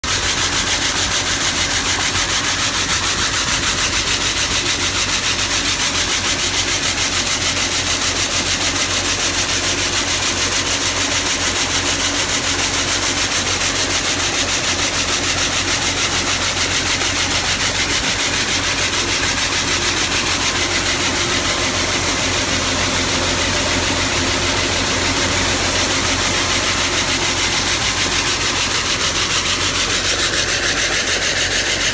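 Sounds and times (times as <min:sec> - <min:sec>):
corn kernels pouring into metal trailer: 0:00.0 - 0:31.9
engine running: 0:00.0 - 0:31.9.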